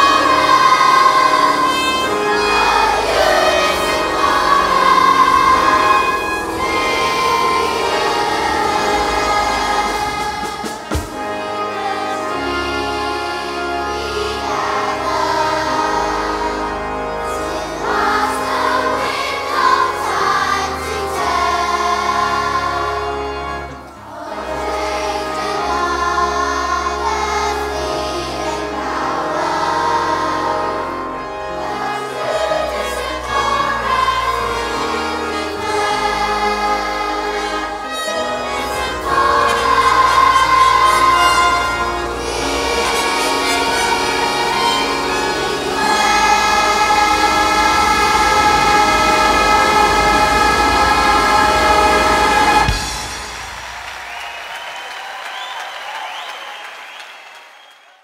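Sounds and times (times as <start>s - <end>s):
instrumental accompaniment: 0.0s - 54.5s
choir singing sustained chords: 0.0s - 54.6s.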